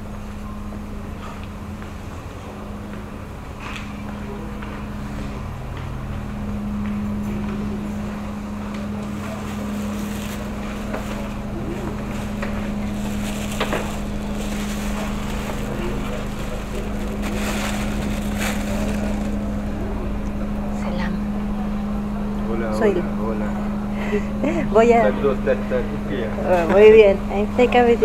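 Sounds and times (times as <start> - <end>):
ferry engine droning: 0.0 - 28.0.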